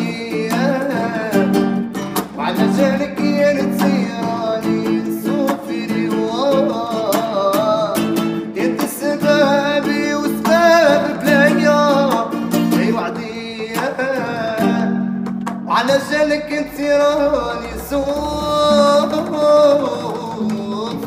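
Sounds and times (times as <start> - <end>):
acoustic guitar strumming: 0.0 - 21.0
man singing slow melody: 0.0 - 21.0.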